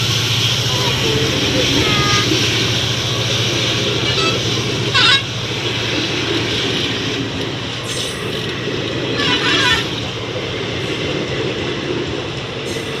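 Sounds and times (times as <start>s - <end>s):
train running hum: 0.0s - 13.0s.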